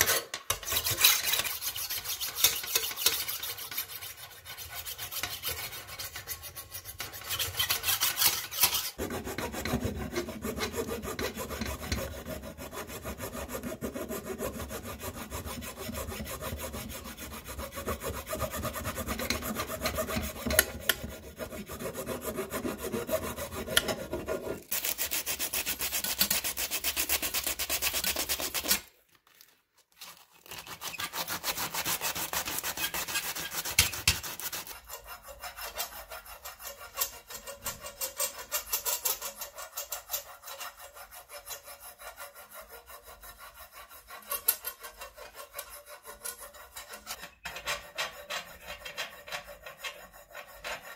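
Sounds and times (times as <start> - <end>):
hand file scraping metal: 0.0 - 28.9, 30.0 - 50.9.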